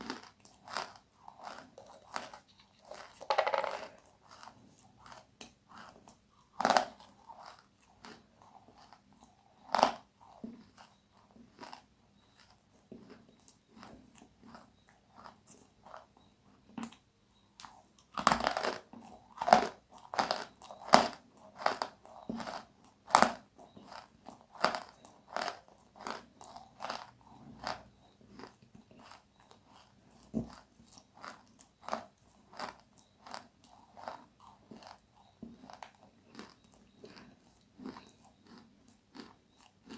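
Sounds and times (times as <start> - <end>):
crunchy food eating: 0.0 - 39.9.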